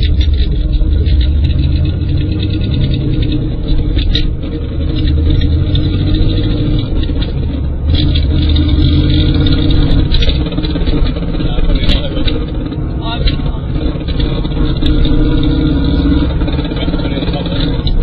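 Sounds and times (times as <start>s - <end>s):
car low rumble: 0.0s - 18.0s.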